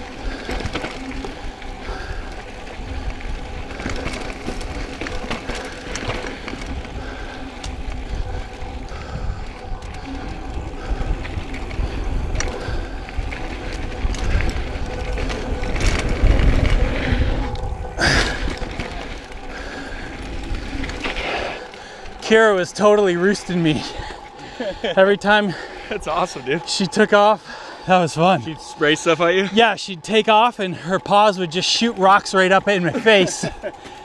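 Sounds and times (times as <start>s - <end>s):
bike tyres crunching over rock: 0.0s - 34.0s
wind rumbling on microphone: 0.0s - 34.0s.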